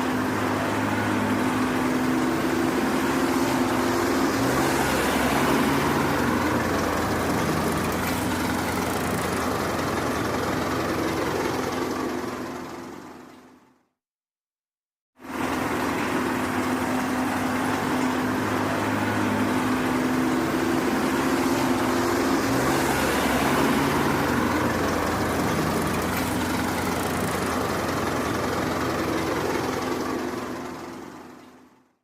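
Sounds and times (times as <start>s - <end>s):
heavy vehicle engine running: 0.0s - 13.8s, 15.2s - 32.0s.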